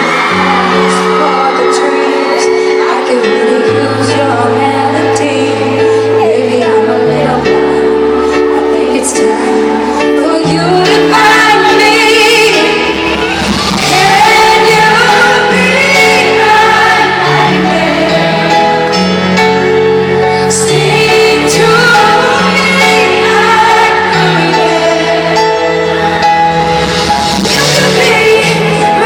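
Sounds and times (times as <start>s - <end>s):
woman singing a pop ballad: 0.0s - 18.8s, 20.3s - 25.4s, 27.4s - 29.0s.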